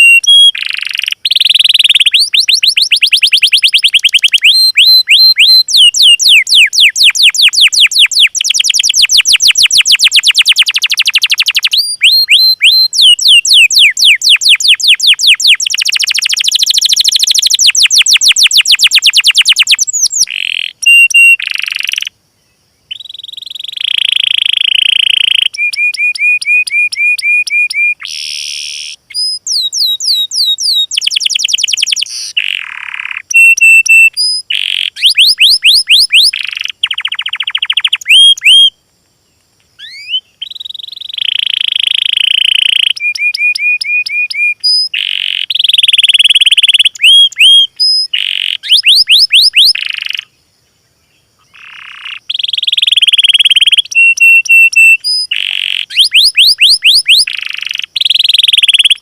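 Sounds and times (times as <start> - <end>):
songbirds singing trills: 0.0 - 59.0.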